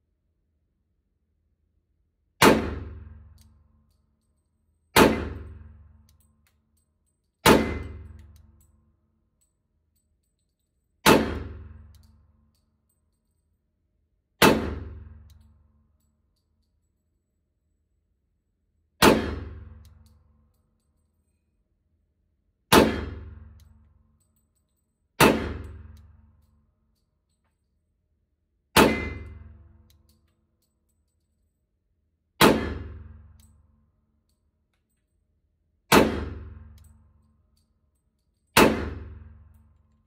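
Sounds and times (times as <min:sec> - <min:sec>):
pistol shots ringing indoors: 0:02.2 - 0:13.6, 0:14.3 - 0:21.6, 0:22.6 - 0:28.0, 0:28.6 - 0:31.7, 0:32.3 - 0:40.0.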